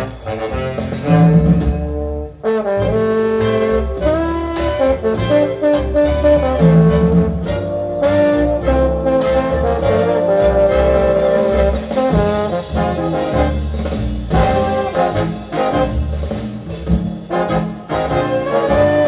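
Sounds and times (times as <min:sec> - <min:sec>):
jazz brass band playing: 0:00.0 - 0:19.0.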